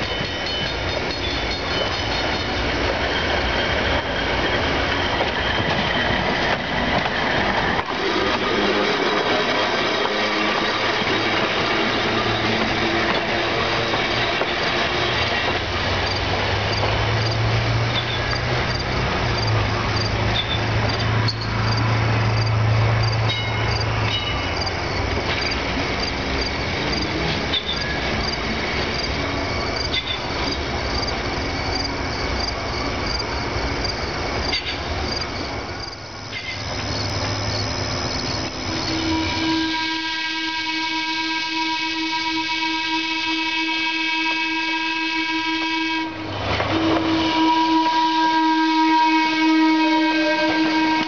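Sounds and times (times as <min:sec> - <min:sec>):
trolley car running on rails: 0:00.0 - 0:51.0.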